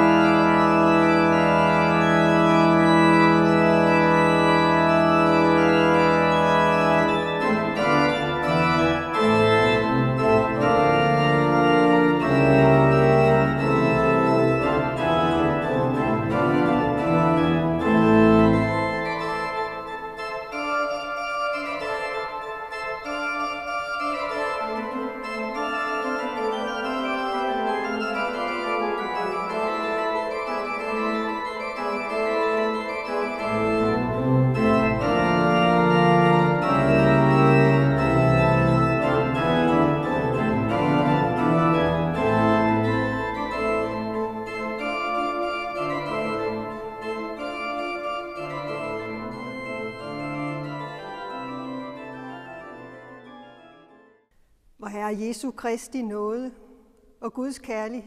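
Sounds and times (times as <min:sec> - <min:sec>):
church organ chords: 0:00.0 - 0:54.2.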